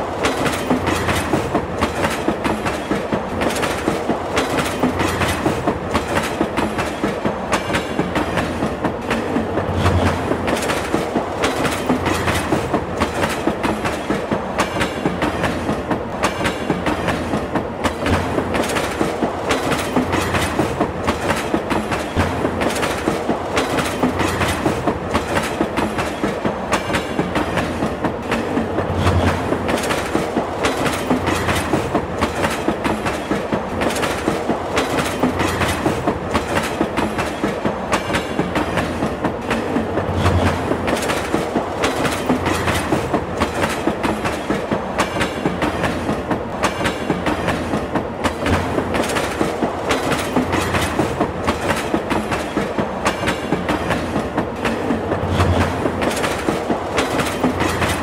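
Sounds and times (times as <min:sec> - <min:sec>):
train low rumble: 0:00.0 - 0:58.0
train wheels clattering: 0:00.0 - 0:58.0.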